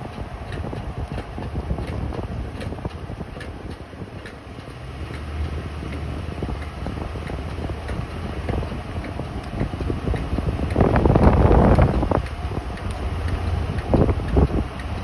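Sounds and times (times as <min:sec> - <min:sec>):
engine knocking: 0:00.0 - 0:15.0
engine low rumble: 0:00.0 - 0:15.0.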